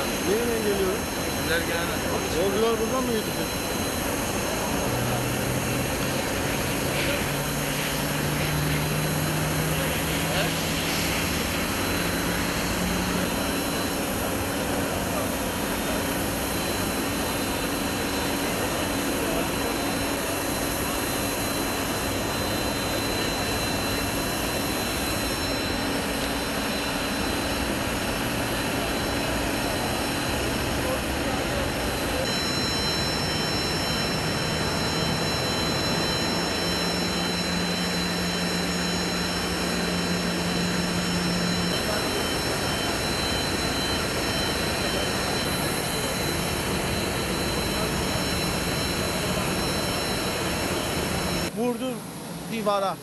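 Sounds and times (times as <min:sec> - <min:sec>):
jet engine rushing and whining: 0:00.0 - 0:53.0.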